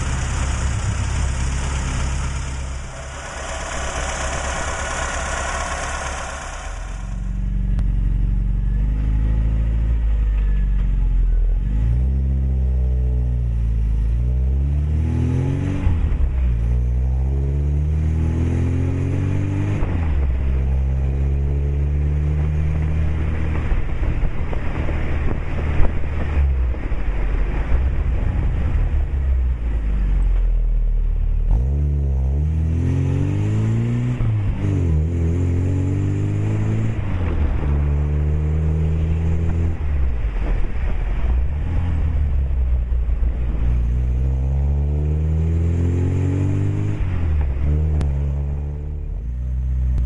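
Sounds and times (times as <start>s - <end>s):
car engine revving: 0.0s - 50.0s.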